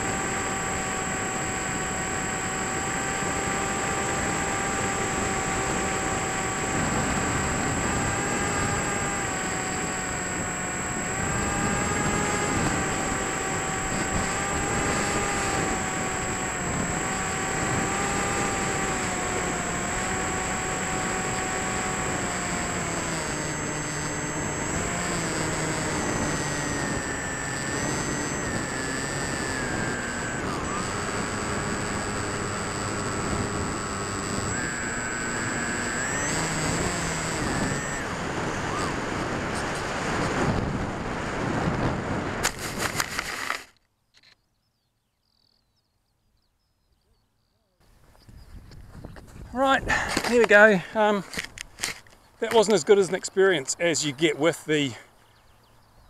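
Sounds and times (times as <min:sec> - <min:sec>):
model plane motor whine: 0:00.0 - 0:44.4, 0:48.1 - 0:56.0.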